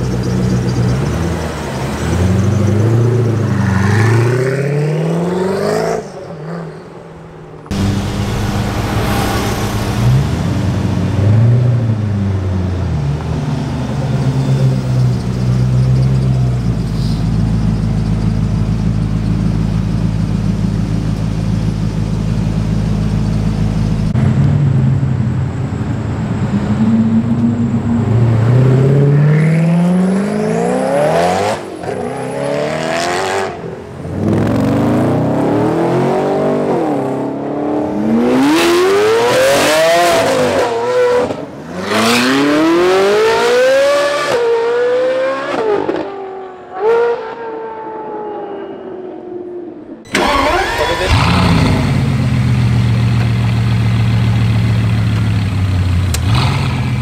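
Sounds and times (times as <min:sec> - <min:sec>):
car engine revving: 0:07.6 - 0:47.5, 0:50.0 - 0:57.0.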